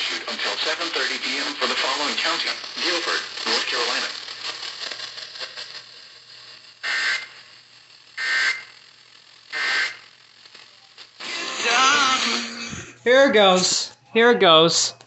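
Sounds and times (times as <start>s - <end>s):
radio hiss: 0.0s - 15.0s
buzzy digital data bursts: 0.6s - 10.5s, 11.2s - 13.8s.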